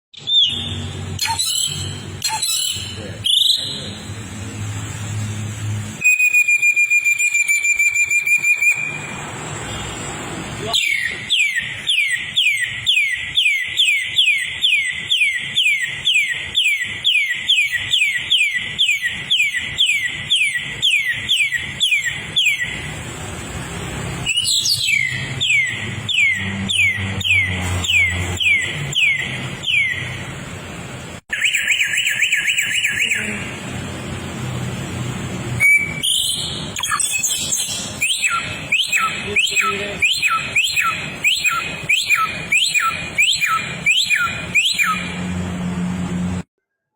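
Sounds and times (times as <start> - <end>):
bird whistling song: 0.1 - 4.0, 6.0 - 9.9, 10.6 - 23.0, 24.2 - 30.3, 31.3 - 33.6, 35.5 - 45.4
bird trill: 0.1 - 4.1, 6.0 - 23.2, 24.0 - 30.4, 31.3 - 33.6, 35.5 - 45.4.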